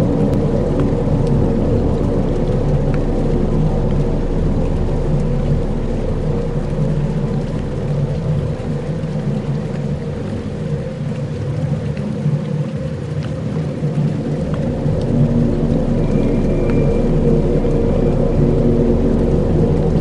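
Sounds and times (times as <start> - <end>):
low sustained drone tones: 0.0 - 11.2, 13.5 - 20.0
deep rumble: 0.0 - 20.0.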